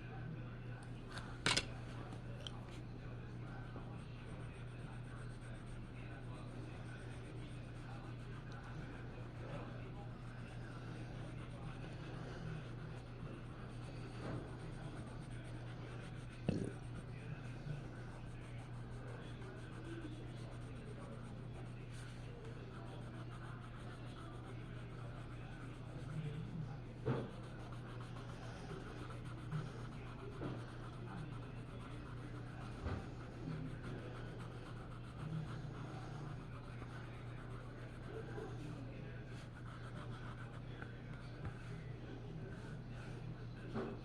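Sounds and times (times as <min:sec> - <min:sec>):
low electrical hum: 0:00.0 - 0:44.0
pencil scratching on paper: 0:03.4 - 0:43.9.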